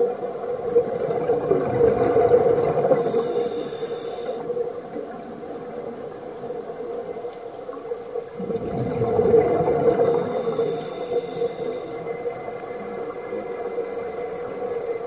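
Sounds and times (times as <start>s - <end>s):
scuba regulator bubbles gurgling: 0.0s - 15.0s.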